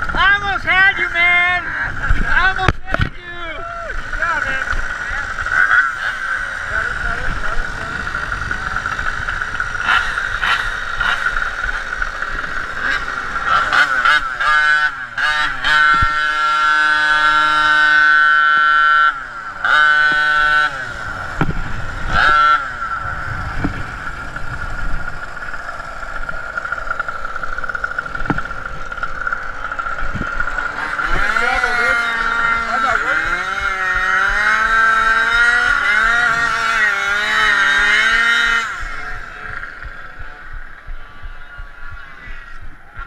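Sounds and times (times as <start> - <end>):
scooter engine revving: 0.0 - 43.0.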